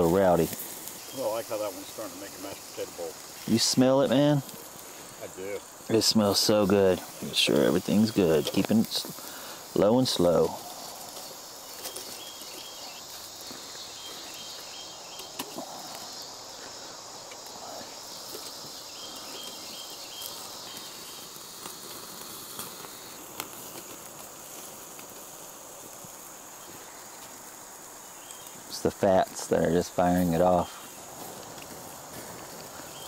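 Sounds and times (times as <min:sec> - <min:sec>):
fat sizzling over fire: 0:00.0 - 0:33.0
fire popping and crackling: 0:00.0 - 0:33.0
insects chirping and droning: 0:00.0 - 0:33.0.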